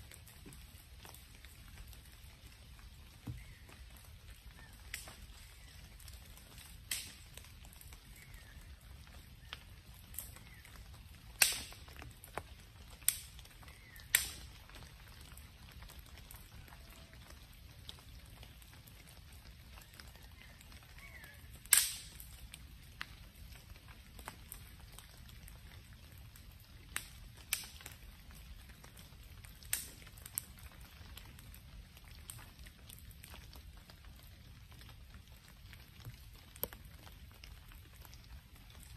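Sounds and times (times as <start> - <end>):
campfire burning: 0.0 - 38.9
sharp pops and cracks of fire: 0.0 - 38.9.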